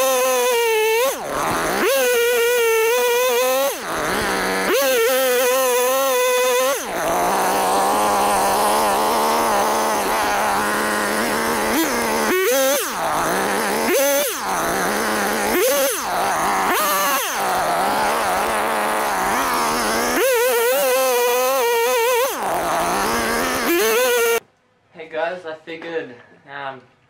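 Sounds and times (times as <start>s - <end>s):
chainsaw cutting stump: 0.0s - 24.4s.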